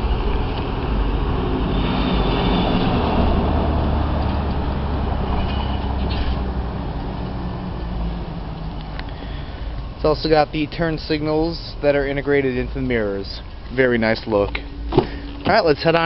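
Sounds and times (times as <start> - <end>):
low rumble of vehicles: 0.0 - 16.0.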